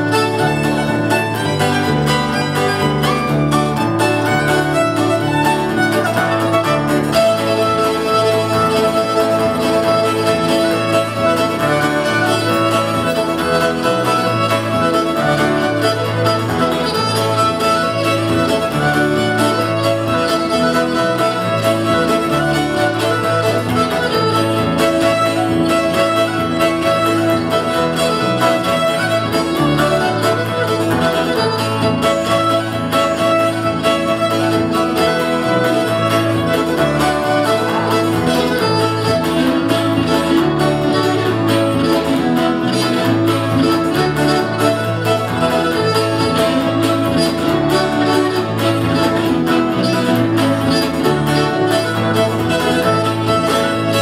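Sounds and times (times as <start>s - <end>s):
bass guitar: 0.0s - 54.0s
fiddle tune: 0.0s - 54.0s
strummed acoustic guitar: 0.0s - 54.0s.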